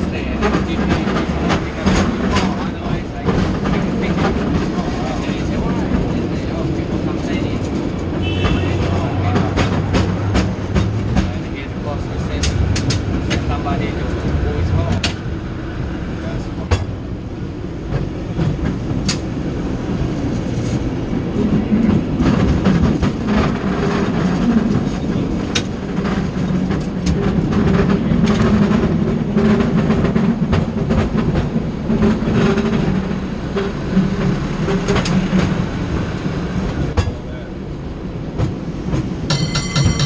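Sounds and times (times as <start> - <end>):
wheels clicking on track: 0.0 - 17.0, 17.7 - 40.0
tram hum: 0.0 - 40.0
tram rumbling along rails: 0.0 - 40.0.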